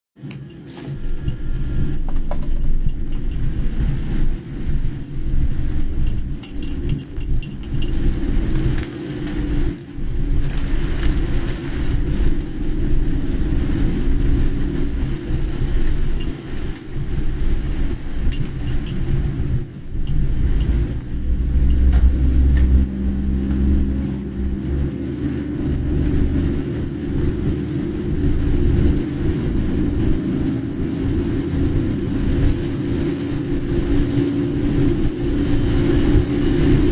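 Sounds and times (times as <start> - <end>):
car engine and road noise: 0.2 - 36.9.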